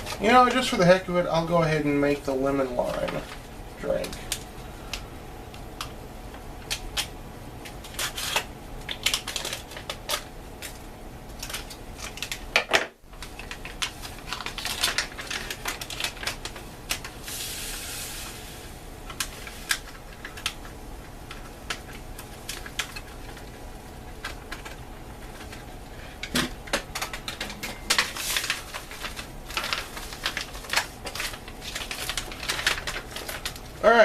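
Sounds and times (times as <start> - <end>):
plastic and foil packaging crinkling: 0.0 - 6.0, 6.6 - 34.0.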